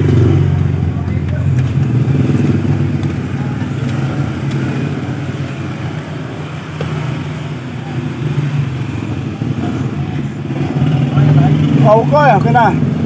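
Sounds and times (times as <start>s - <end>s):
street traffic: 0.0s - 13.0s
vehicle engine droning: 0.0s - 13.0s.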